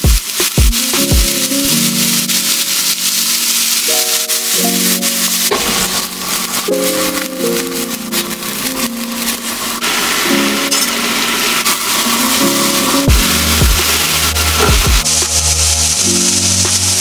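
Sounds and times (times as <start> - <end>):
low rumble of flames flaring: 0.0 - 17.0
vegetables sizzling in a frying pan: 0.0 - 17.0.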